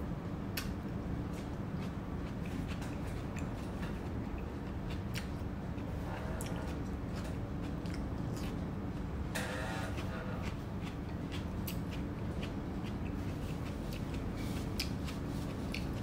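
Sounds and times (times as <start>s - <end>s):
low background hum: 0.0s - 16.0s
person chewing wetly: 0.6s - 9.1s, 10.0s - 16.0s.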